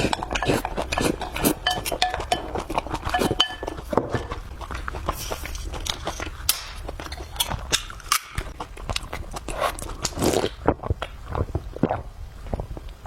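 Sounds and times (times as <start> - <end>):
person chewing crunchily: 0.0 - 12.6
wet mouth noise: 0.0 - 12.9.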